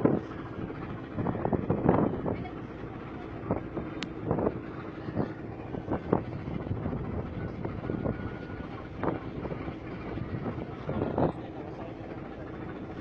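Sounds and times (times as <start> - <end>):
ship engine drone: 0.0 - 13.0
wind gusting on microphone: 0.0 - 13.0.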